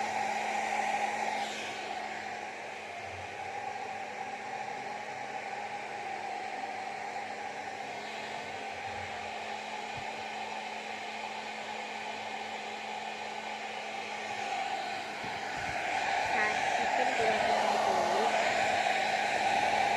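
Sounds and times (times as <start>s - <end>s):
hair dryer blowing air: 0.0s - 19.9s
hair dryer motor hum: 0.0s - 19.9s.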